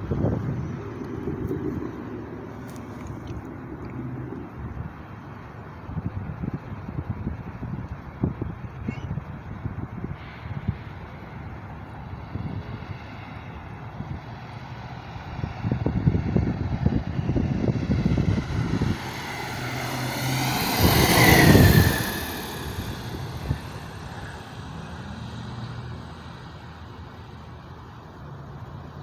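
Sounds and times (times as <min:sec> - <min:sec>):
wind buffeting microphone: 0:00.0 - 0:25.7
propeller airplane passing: 0:00.0 - 0:29.0.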